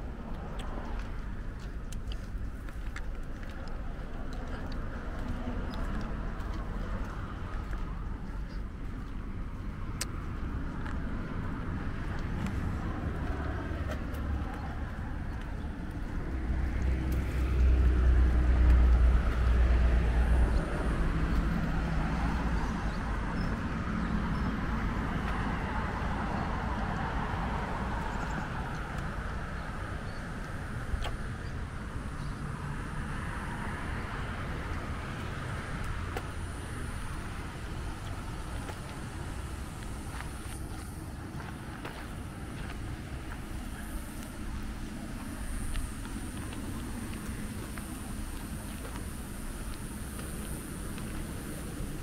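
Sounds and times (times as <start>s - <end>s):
cars passing: 0.0s - 52.0s
vehicle passing with deep rumble: 0.0s - 52.0s.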